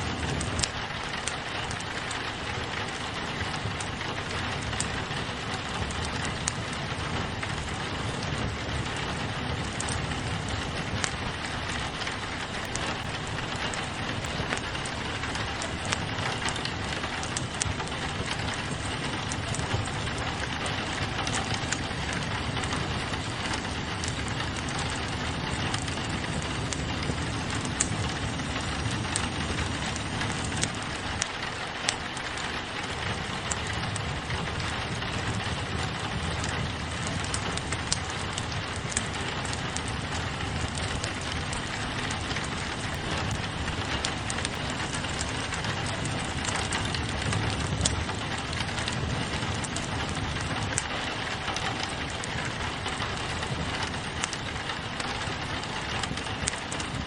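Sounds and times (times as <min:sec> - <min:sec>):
rain against a window: 0:00.0 - 0:57.0
wood fire crackling: 0:00.0 - 0:57.0.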